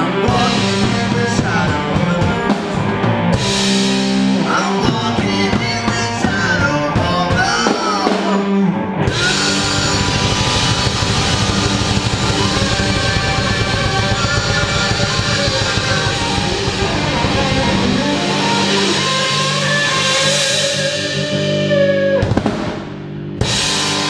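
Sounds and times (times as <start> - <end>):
drum kit: 0.0 - 24.0
electric guitar: 0.0 - 24.0
rock band playing live: 0.0 - 24.0.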